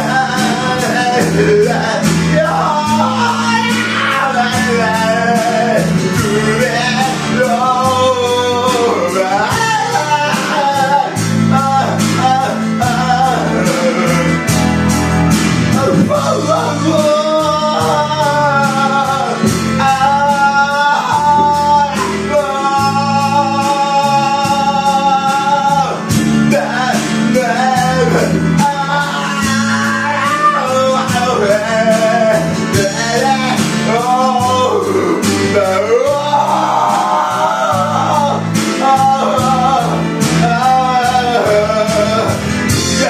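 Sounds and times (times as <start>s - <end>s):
backing track with guitar and beat: 0.0s - 43.0s
man singing karaoke: 0.0s - 43.0s.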